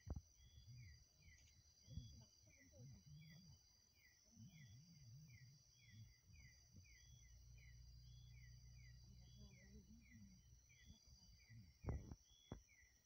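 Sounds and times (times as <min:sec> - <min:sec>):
insects trilling and chirping: 0:00.0 - 0:13.0.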